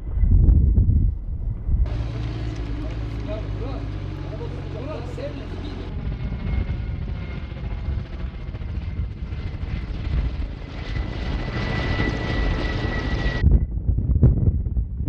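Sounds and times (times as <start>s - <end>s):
high whine: 0.0s - 14.5s
helicopter rotor and engine rumble: 0.0s - 15.0s.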